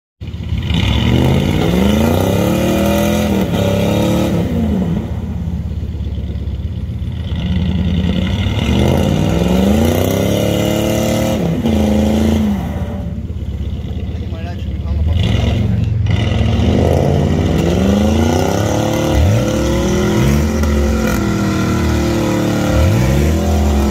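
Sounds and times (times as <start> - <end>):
car engine revving hard: 0.6 - 5.4, 7.3 - 13.3, 15.0 - 23.9.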